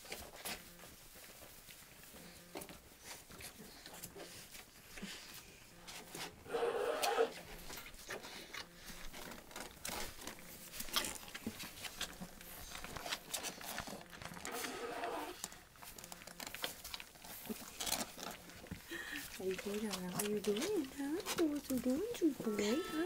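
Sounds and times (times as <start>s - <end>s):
puppies lapping and chewing: 0.0s - 6.4s, 7.3s - 23.0s.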